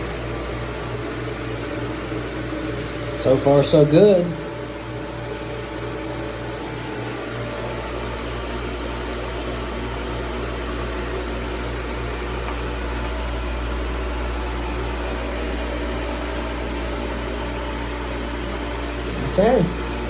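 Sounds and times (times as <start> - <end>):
pool pump motor humming: 0.0 - 20.0.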